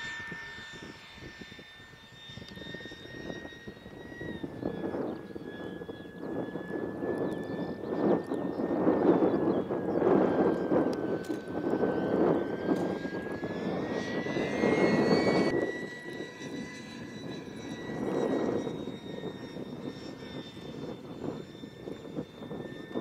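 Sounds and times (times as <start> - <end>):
electric ducted fan whining: 0.0 - 23.0.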